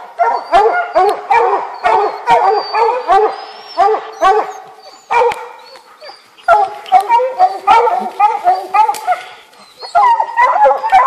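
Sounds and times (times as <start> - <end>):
hunting dogs barking: 0.0 - 11.0.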